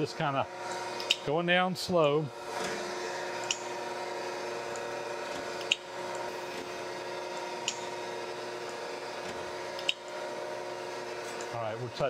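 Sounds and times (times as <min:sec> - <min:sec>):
grinder hum: 0:00.0 - 0:12.0.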